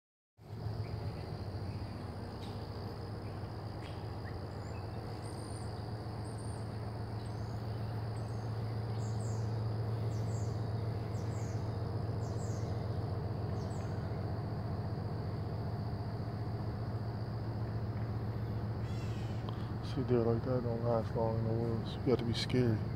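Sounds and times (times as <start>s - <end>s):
birds chirping: 0.4s - 16.0s, 17.4s - 22.9s
low hum: 0.4s - 22.9s
high-pitched insect drone: 0.5s - 22.9s.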